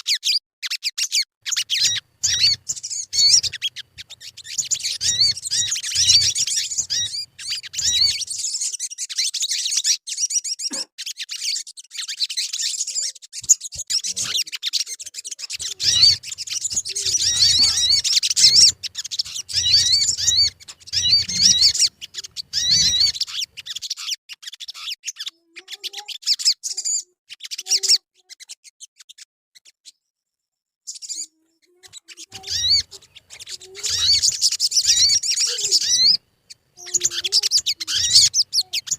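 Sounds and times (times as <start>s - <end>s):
bird twittering and whistling: 0.0s - 30.0s, 30.9s - 38.9s.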